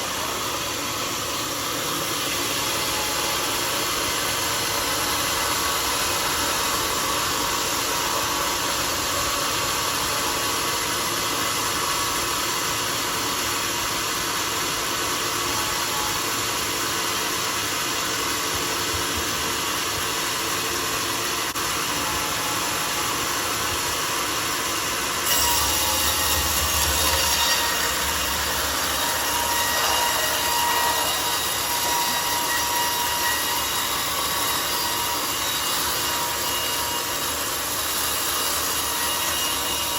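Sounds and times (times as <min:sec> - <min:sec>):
sawmill blade sawing log: 0:00.0 - 0:39.9.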